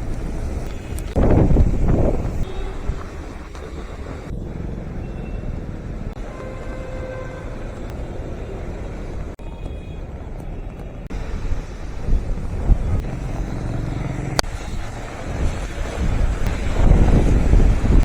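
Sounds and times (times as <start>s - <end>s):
wind buffeting microphone: 0.0s - 9.4s, 11.0s - 18.0s
outdoor rumble: 0.0s - 18.0s.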